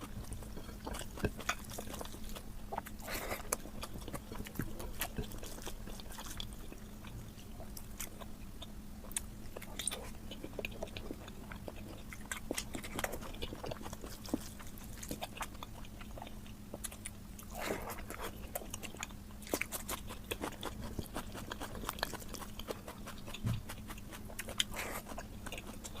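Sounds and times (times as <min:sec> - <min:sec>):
close chewing and lip-smacking: 0:00.0 - 0:26.0
faint steady hum: 0:00.0 - 0:26.0.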